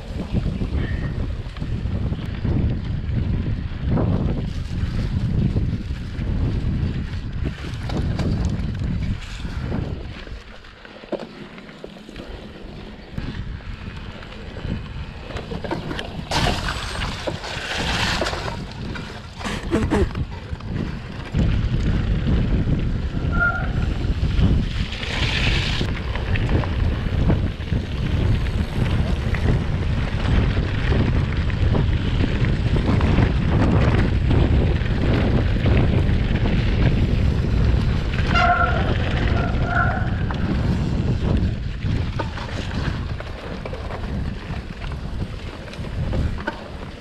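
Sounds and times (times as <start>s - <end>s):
wind buffeting microphone: 0.0s - 10.8s, 12.2s - 47.0s.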